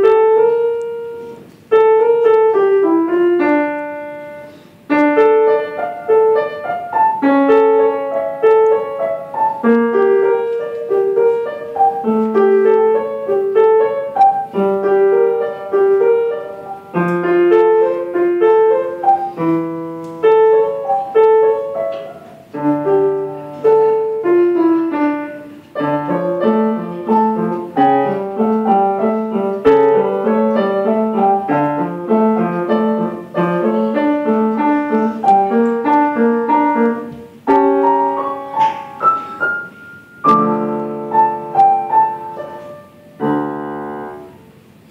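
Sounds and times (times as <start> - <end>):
solo piano: 0.0 - 44.9.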